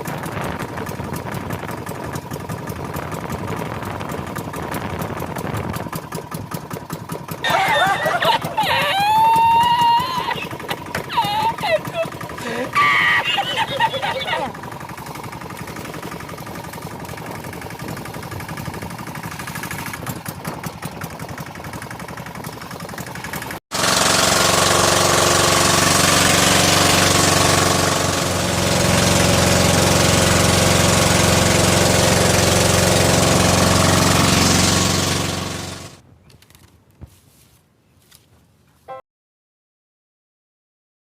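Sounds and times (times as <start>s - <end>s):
engine knocking: 0.0s - 36.0s
engine running steadily: 0.0s - 36.7s.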